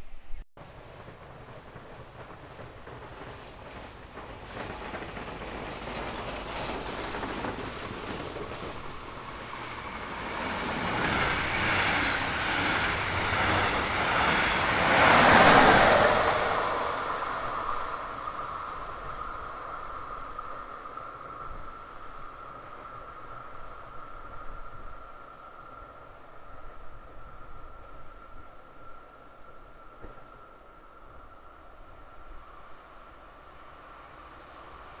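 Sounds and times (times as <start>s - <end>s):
train rushing past: 0.6s - 35.0s.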